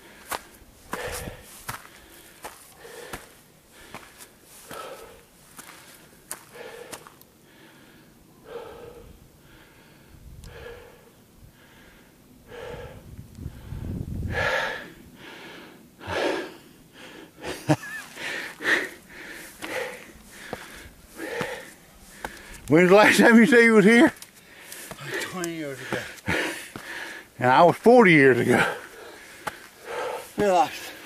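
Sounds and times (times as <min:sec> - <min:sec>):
man breathing hard: 0:00.0 - 0:22.7, 0:24.4 - 0:27.4, 0:28.4 - 0:31.0.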